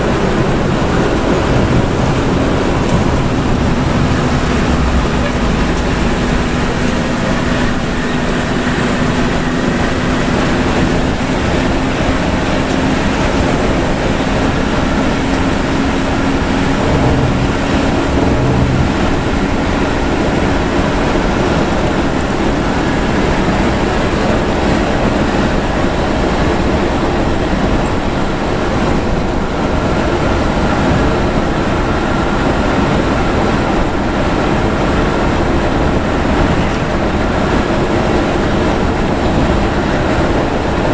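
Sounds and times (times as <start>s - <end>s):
bus engine drone: 0.0s - 40.9s
tyre noise on wet road: 0.0s - 40.9s.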